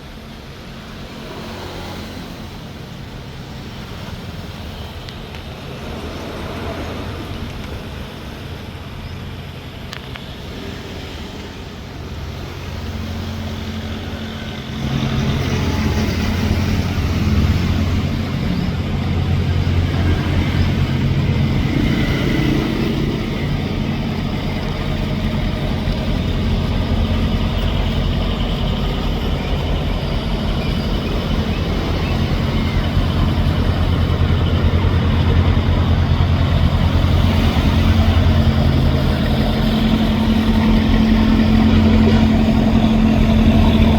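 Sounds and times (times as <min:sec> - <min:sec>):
boat engine humming: 0:00.0 - 0:43.9.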